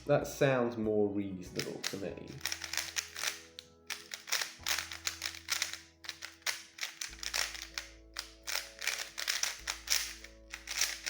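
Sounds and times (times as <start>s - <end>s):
soft background music: 0.0s - 11.0s
puzzle cube plastic clicks: 1.6s - 11.0s.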